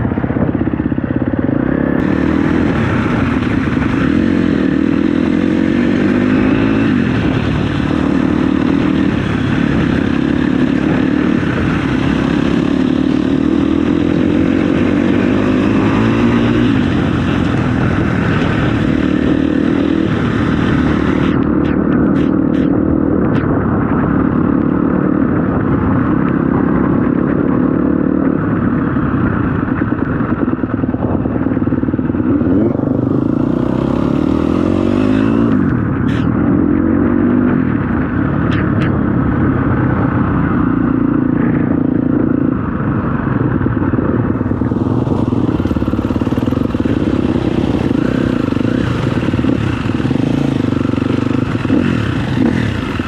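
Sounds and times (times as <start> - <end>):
dirt bike engine revving: 0.0 - 26.6, 32.0 - 38.0, 40.3 - 53.0.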